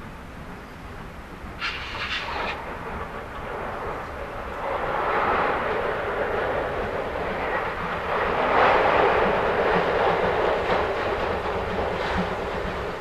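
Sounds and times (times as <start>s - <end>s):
steam train rumbling in tunnel: 0.0s - 13.0s.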